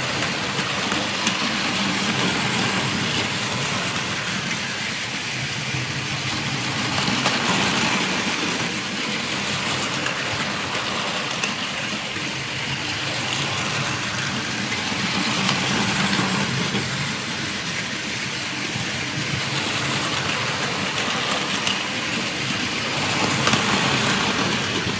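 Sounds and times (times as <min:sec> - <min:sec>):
toy train motor whir: 0:00.0 - 0:24.9.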